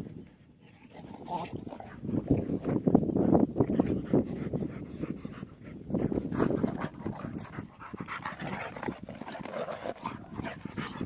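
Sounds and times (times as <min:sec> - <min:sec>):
dogs fighting: 0:00.0 - 0:11.0.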